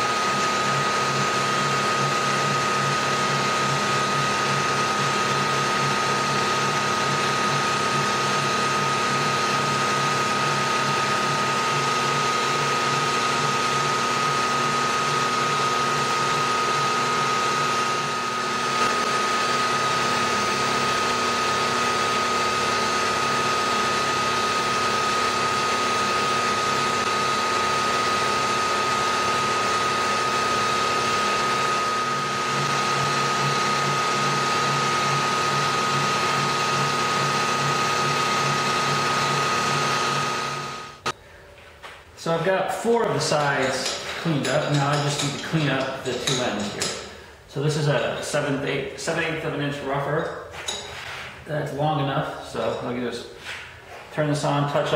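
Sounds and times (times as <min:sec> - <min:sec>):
milling machine whining: 0:00.0 - 0:41.2, 0:42.2 - 0:53.0.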